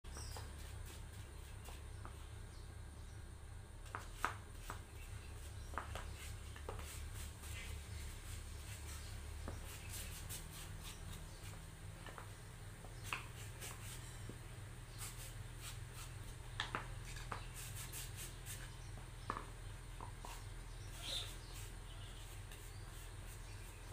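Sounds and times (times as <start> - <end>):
paintbrush strokes on wood: 0.1 - 2.3, 3.8 - 23.9
faint low hum: 0.1 - 23.9.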